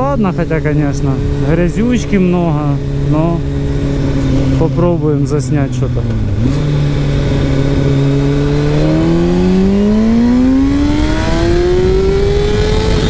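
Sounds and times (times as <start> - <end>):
motorcycle engine accelerating hard: 0.0 - 13.0.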